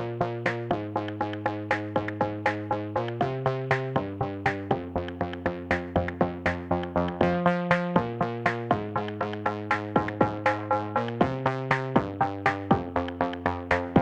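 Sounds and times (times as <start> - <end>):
drum machine beat: 0.0 - 14.0
synthesizer chords: 0.0 - 14.0.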